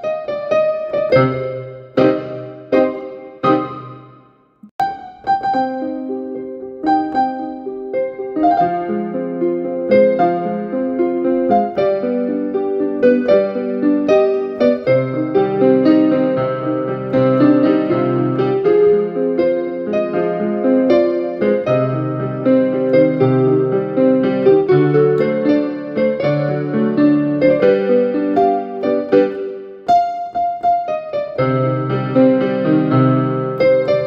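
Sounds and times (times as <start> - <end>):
digital piano playing: 0.0 - 34.0.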